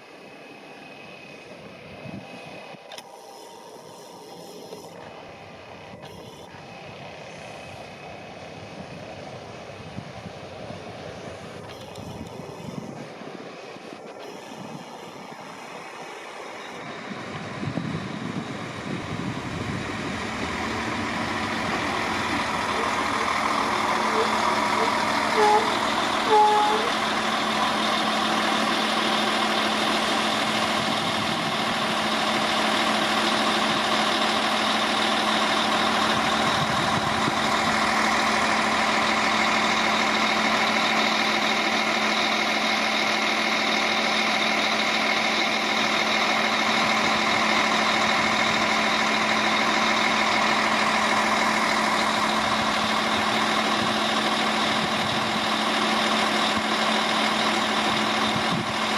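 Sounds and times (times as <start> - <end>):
diesel train engine idling: 0.0 - 58.9.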